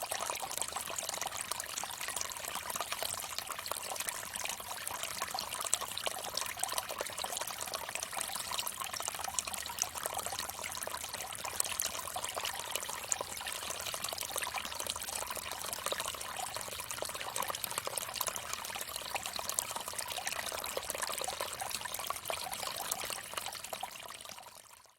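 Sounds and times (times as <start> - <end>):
water trickling into a basin: 0.0 - 24.9.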